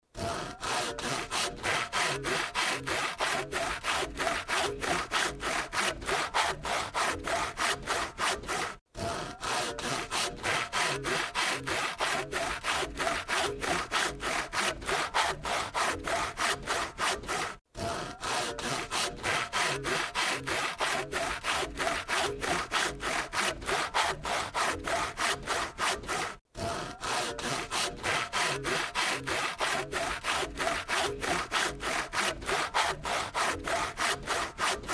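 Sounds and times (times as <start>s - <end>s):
hand saw cutting: 0.1s - 34.9s.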